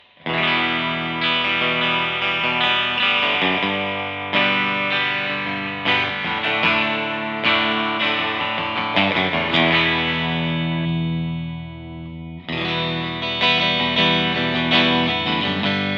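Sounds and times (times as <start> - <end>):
electric guitar chords ringing: 0.0 - 15.9.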